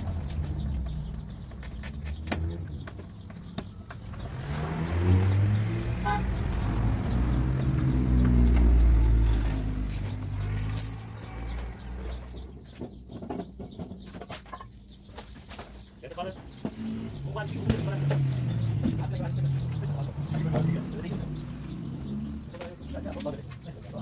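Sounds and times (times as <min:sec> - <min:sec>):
vehicle engine running: 0:00.0 - 0:13.1, 0:16.2 - 0:24.0.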